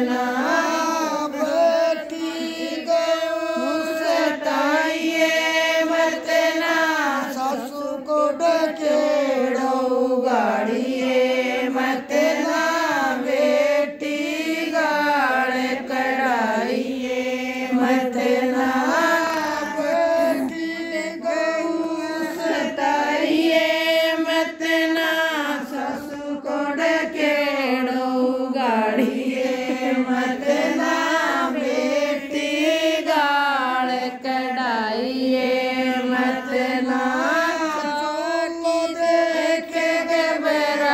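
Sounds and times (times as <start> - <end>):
woman singing unaccompanied: 0.0 - 40.9.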